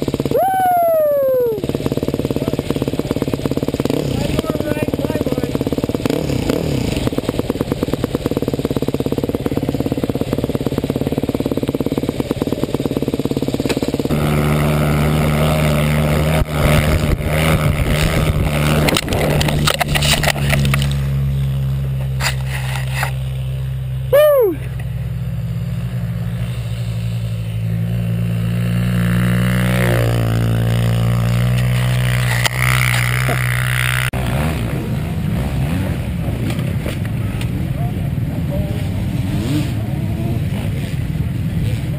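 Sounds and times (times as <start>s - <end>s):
dirt bike engines running: 0.0s - 41.9s.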